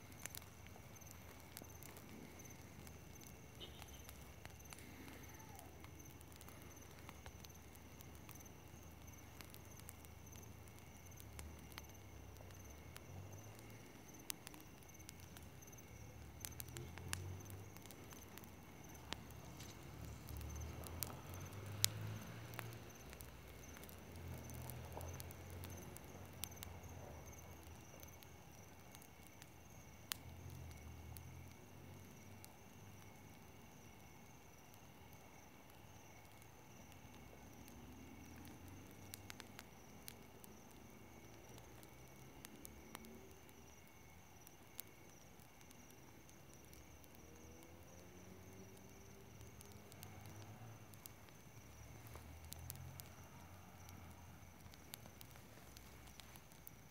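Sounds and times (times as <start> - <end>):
dry grass fire crackling: 0.0 - 56.9.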